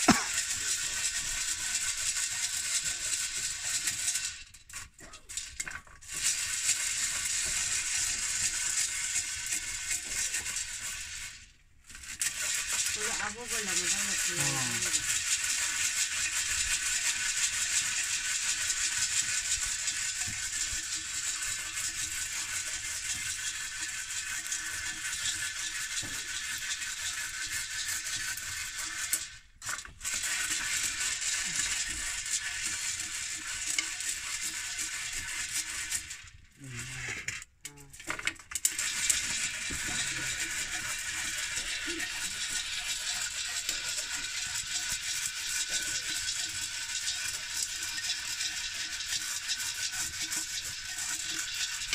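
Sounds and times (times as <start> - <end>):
kernels rattling in a pot: 0.0 - 51.9.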